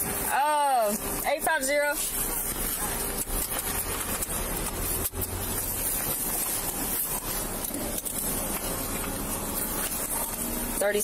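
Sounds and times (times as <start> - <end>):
vehicle cabin engine hum: 0.0 - 11.0.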